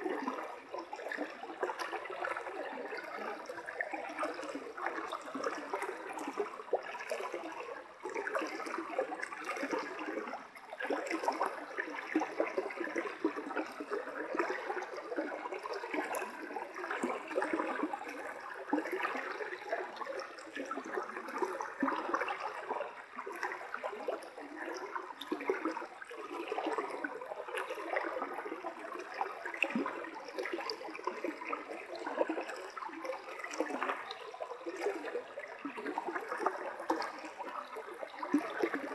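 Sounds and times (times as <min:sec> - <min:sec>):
stream rippling: 0:00.0 - 0:38.9.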